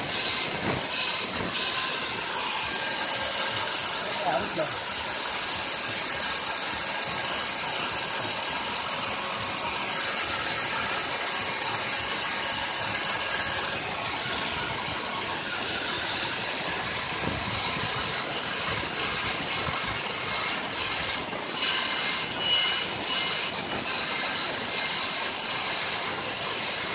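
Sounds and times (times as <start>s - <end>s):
hiss: 0.0s - 26.9s
motor running with whine: 0.0s - 26.9s.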